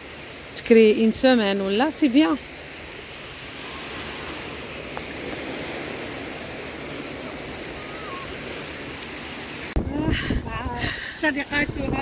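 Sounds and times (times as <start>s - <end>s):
waves washing onto sand: 0.0s - 12.0s.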